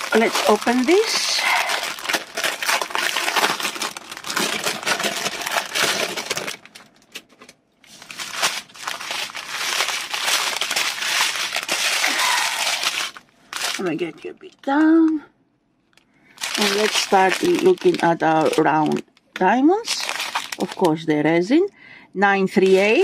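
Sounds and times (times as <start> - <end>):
plastic packaging crinkling: 0.0 - 14.6, 16.3 - 21.0, 22.5 - 23.0.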